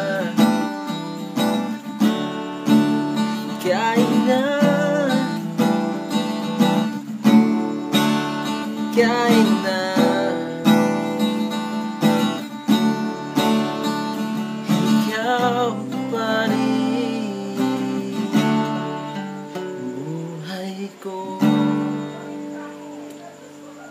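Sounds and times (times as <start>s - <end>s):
acoustic guitar strumming and picking: 0.0s - 23.9s.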